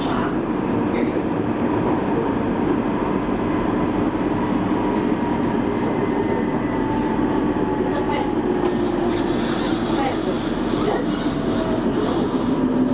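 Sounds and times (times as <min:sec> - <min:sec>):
metro train rumbling: 0:00.0 - 0:12.9.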